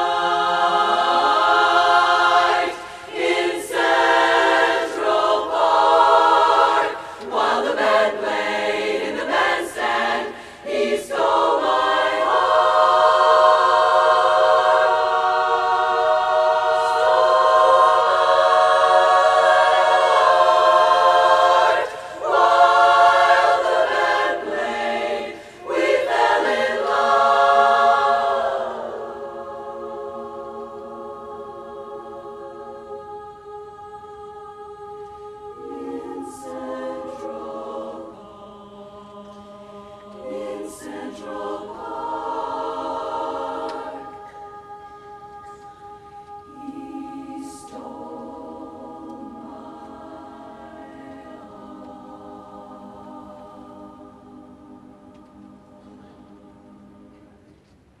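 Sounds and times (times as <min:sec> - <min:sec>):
women's chorus singing a cappella: 0:00.0 - 0:58.0.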